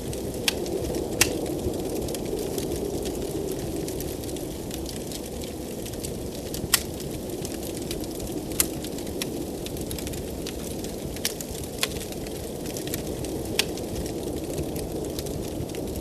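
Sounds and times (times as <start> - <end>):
blizzard wind: 0.0 - 16.0
low rush of fire: 0.0 - 16.0
wood fire pops and snaps: 0.0 - 16.0.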